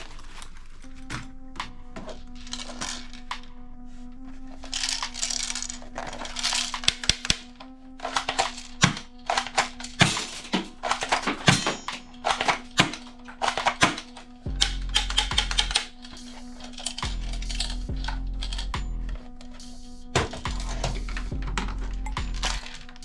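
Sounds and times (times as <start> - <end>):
background music with drone: 0.0 - 23.0.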